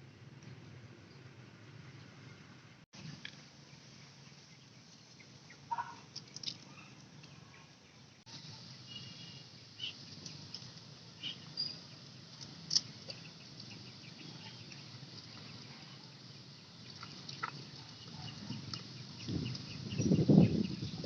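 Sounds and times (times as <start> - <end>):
small birds chirping: 1.0 - 21.0.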